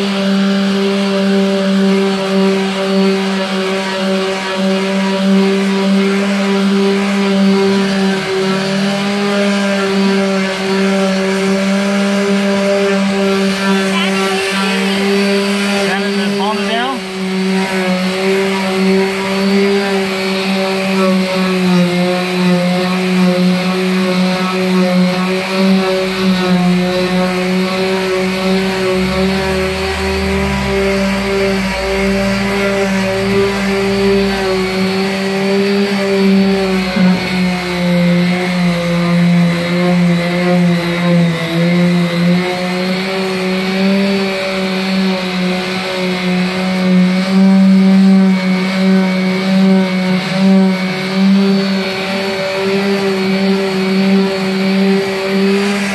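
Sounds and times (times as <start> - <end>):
electric orbital sander running: 0.0 - 55.9.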